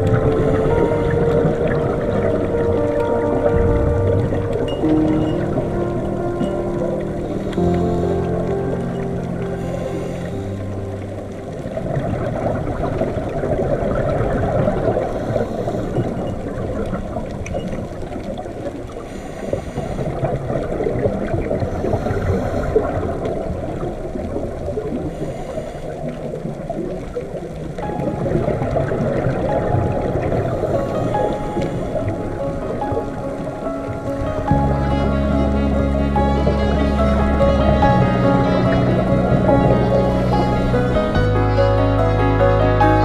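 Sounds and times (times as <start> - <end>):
underwater water rushing: 0.0 - 43.0.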